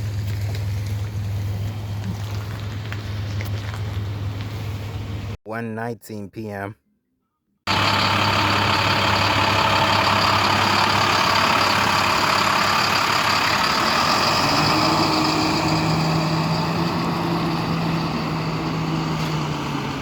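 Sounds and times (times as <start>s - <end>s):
truck engine running: 0.0s - 5.4s, 7.7s - 20.0s.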